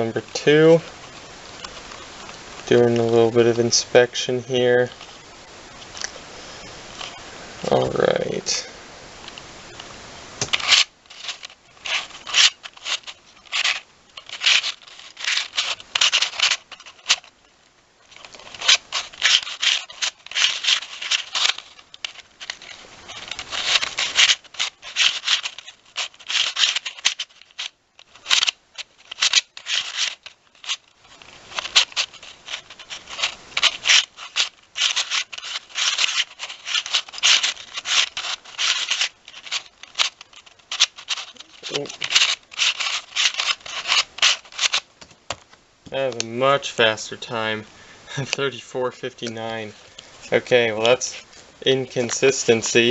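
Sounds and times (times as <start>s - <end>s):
puzzle cube pieces scraping: 0.0s - 5.2s, 10.4s - 17.4s, 18.0s - 45.3s, 46.0s - 52.9s.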